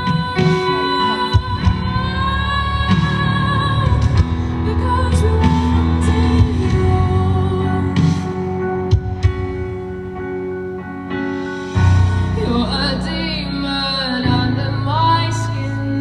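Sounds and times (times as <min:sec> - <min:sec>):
live band playing loud: 0:00.0 - 0:16.0.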